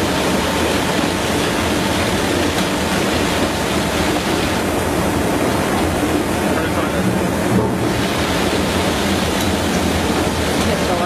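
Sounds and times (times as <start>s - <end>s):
potato washing machine rushing: 0.0s - 11.0s.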